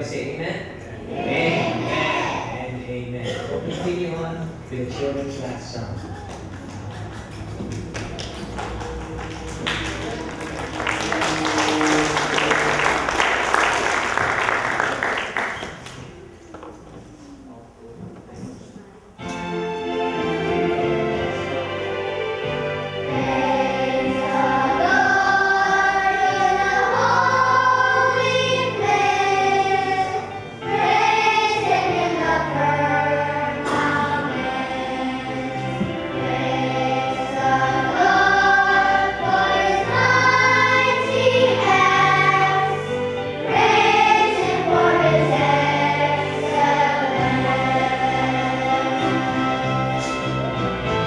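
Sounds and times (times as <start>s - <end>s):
children's choir singing: 0.4s - 16.5s, 19.2s - 51.0s.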